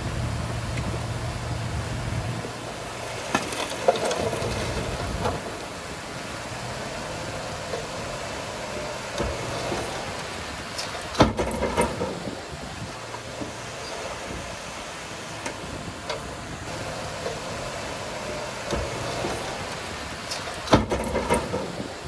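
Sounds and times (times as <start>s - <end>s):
heavy machinery running: 0.0s - 22.0s.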